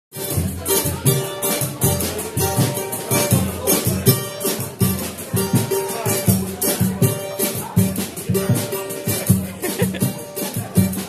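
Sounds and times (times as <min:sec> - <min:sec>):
acoustic guitar: 0:00.1 - 0:11.0
samba percussion: 0:00.1 - 0:11.0.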